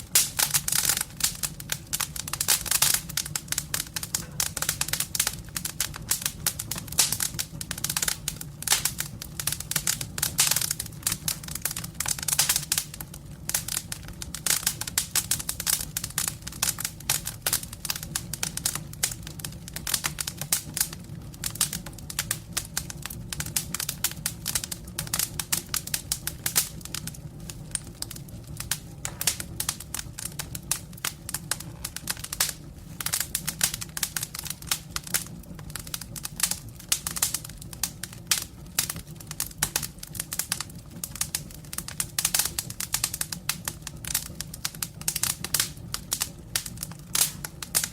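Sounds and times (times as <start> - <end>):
campfire crackling: 0.0 - 47.9
steady low hum: 0.0 - 47.9.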